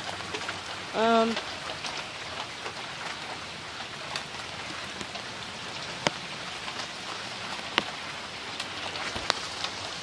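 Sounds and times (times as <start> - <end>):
heavy rain hissing: 0.0 - 10.0.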